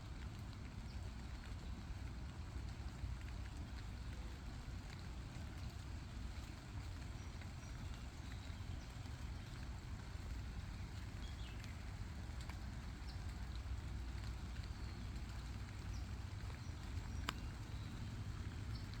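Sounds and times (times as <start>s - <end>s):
rain hissing with drop ticks: 0.0s - 19.0s.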